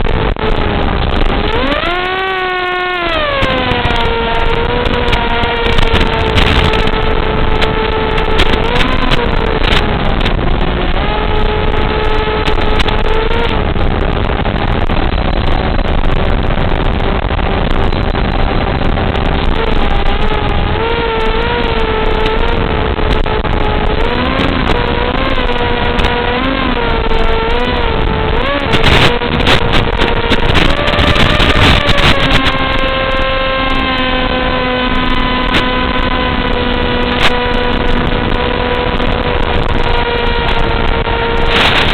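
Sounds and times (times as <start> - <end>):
rushing noise: 0.0 - 41.9
small motor whining in flight: 0.0 - 41.9.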